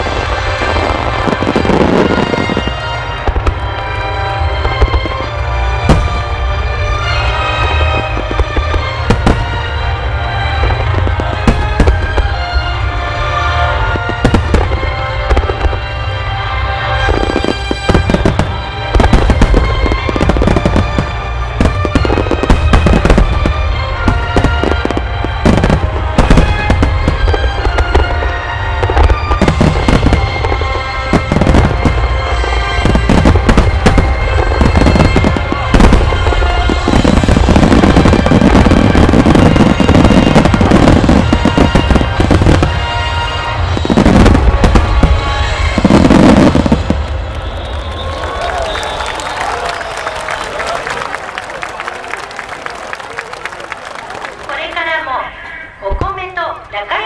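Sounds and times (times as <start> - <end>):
music playing: 0.0 - 55.9
fireworks bursting: 0.0 - 57.0.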